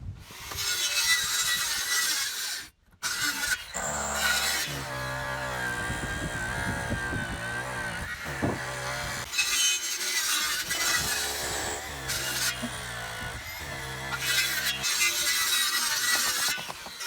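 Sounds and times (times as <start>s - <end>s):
power saw cutting wood: 0.2s - 17.0s.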